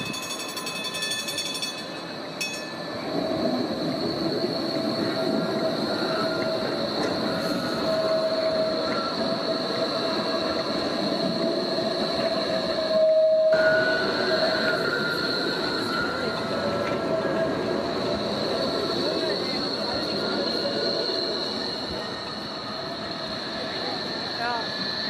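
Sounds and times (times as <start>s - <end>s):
electric tram passing with whine: 0.0s - 25.0s.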